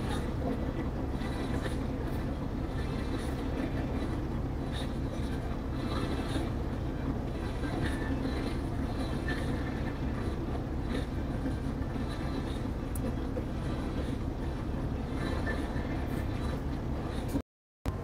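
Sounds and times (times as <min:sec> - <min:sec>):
ferry engines rumbling: 0:00.0 - 0:18.0.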